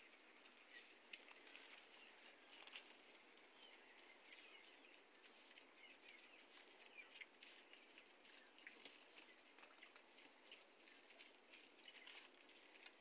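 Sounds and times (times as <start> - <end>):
light ticks and rustles: 0.0 - 13.0
small birds chirping: 0.0 - 13.0.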